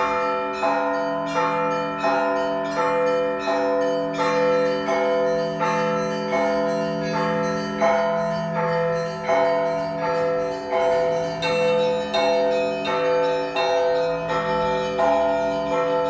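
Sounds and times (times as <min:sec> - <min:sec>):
church bells ringing: 0:00.0 - 0:16.0
low bell sounding: 0:00.0 - 0:16.0.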